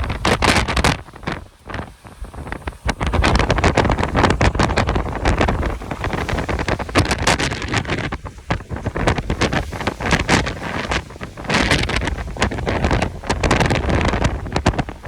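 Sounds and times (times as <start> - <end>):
gusty wind on microphone: 0.0 - 15.0.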